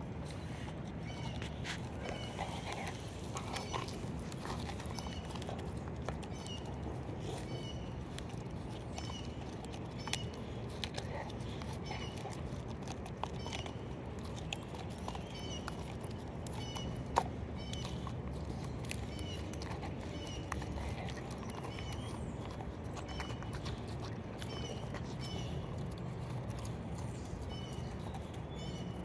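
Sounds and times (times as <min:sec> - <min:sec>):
dog gnawing wood: 0:00.0 - 0:29.0.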